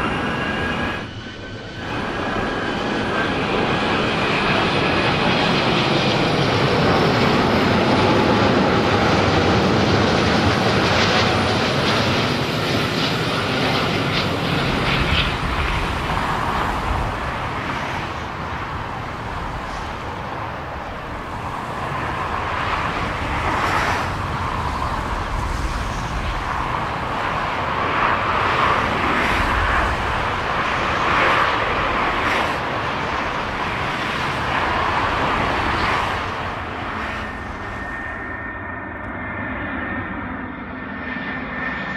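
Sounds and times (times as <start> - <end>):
wind gusting on microphone: 0.0 - 40.0
jet engines roaring: 0.0 - 41.9
twin-engine jet on approach: 0.0 - 41.9.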